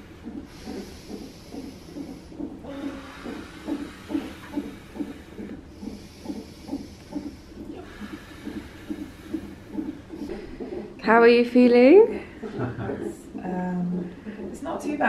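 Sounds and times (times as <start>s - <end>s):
whooshing fetal heartbeat pulse: 0.0s - 15.0s.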